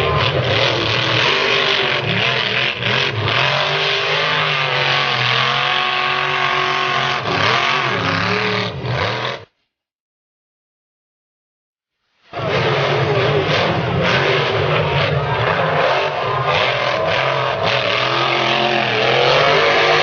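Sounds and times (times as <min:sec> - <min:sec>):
truck engine revving: 0:00.0 - 0:09.5, 0:12.4 - 0:20.0.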